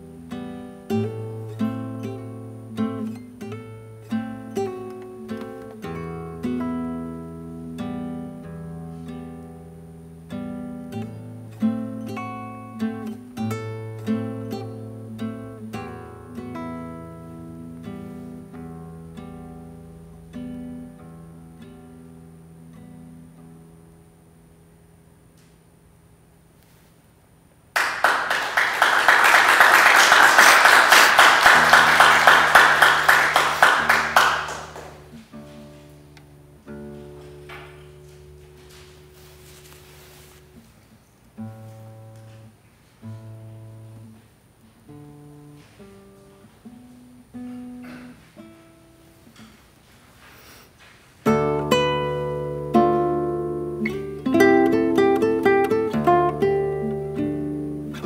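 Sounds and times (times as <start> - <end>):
classical guitar playing: 0.0 - 26.2, 30.4 - 49.9, 51.2 - 58.0.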